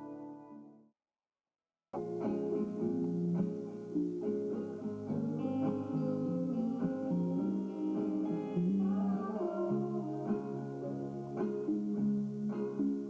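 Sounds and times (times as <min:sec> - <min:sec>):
guitar picked notes: 0:00.0 - 0:00.7, 0:02.0 - 0:13.0.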